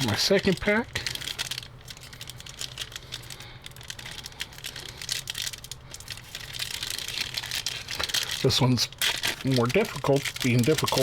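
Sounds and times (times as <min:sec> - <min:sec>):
wrapper crinkling: 0:00.0 - 0:11.0.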